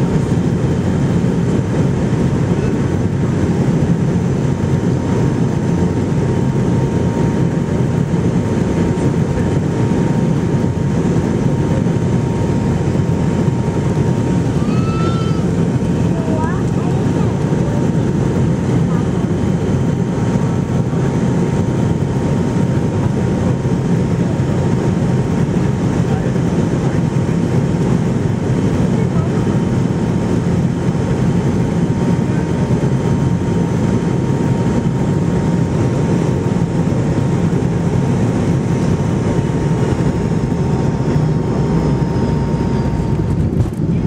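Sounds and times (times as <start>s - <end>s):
cabin airflow and engine drone: 0.0s - 44.0s
thin steady whine: 5.9s - 44.0s.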